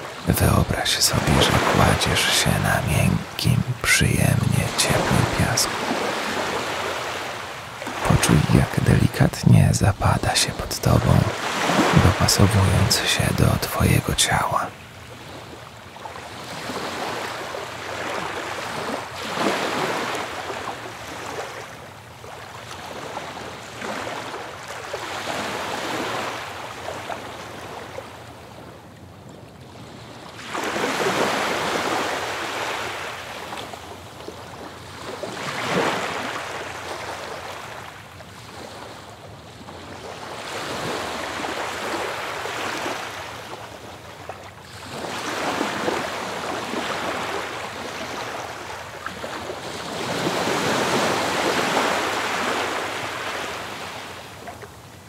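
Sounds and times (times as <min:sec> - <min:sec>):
waves washing on a beach: 0:00.0 - 0:10.0, 0:10.6 - 0:13.4, 0:14.6 - 0:55.0.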